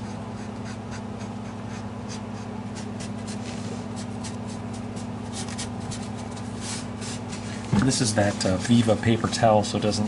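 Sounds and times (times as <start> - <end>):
paper towel rubbing strokes: 0.0 - 9.3
steady low hum: 0.0 - 10.0.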